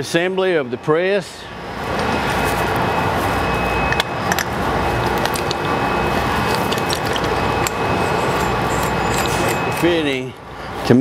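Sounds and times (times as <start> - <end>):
workshop background noise: 0.0 - 11.0.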